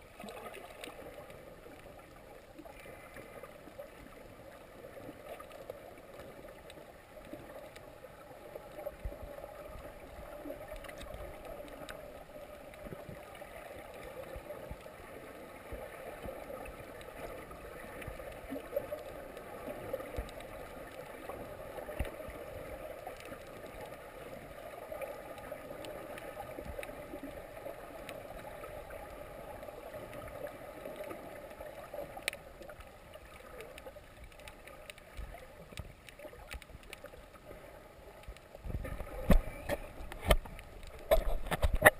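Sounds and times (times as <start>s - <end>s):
muffled underwater water noise: 0.0s - 41.9s
faint clicks and knocks: 0.1s - 41.9s.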